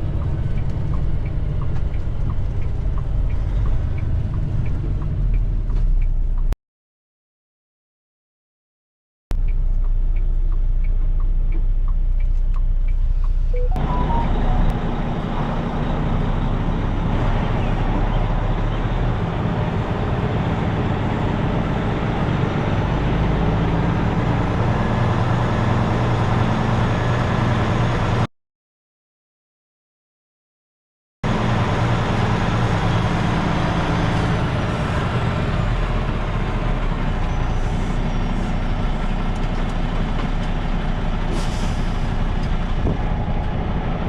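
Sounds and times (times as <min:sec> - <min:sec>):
road noise: 0:00.0 - 0:06.6, 0:09.3 - 0:28.3, 0:31.2 - 0:44.0
truck engine rumbling: 0:00.0 - 0:06.6, 0:09.3 - 0:28.3, 0:31.3 - 0:44.0.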